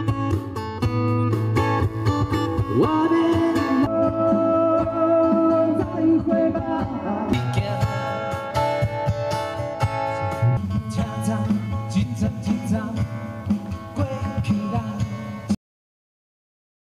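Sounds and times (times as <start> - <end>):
live band music with guitar: 0.0 - 15.6.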